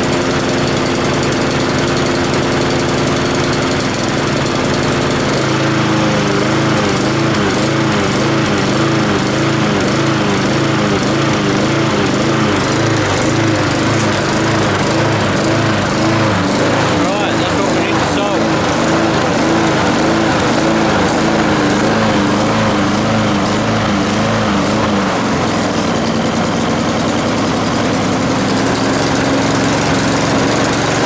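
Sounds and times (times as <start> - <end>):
lawn mower engine surging: 0.0 - 31.0.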